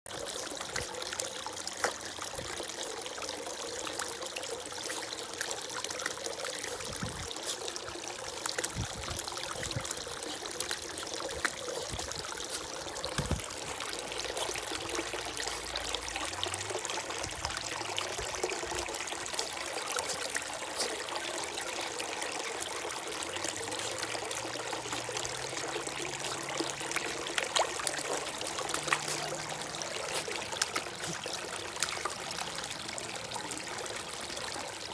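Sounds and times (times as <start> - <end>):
fountain water trickling: 0.1 - 34.9
puppy splashing in water: 0.1 - 34.9.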